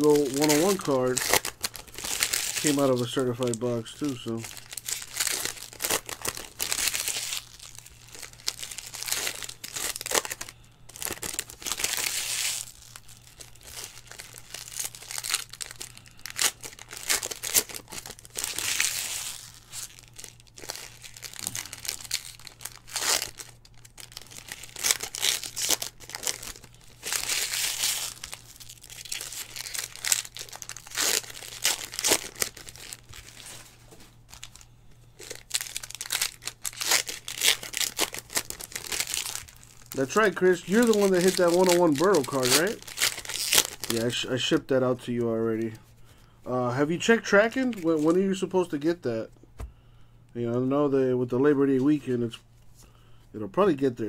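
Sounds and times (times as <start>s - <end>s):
wrappers tearing and crinkling: 0.0s - 45.8s, 47.0s - 48.9s.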